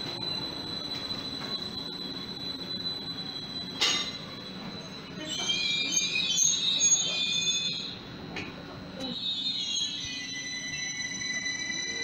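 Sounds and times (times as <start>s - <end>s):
high train whine: 0.0s - 12.0s.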